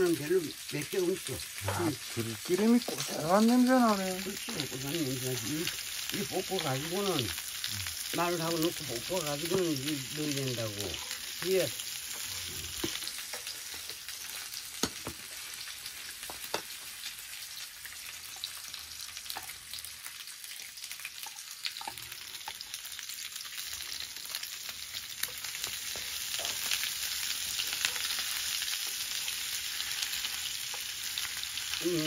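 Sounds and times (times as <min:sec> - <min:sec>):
meat sizzling in oil: 0:00.0 - 0:32.0.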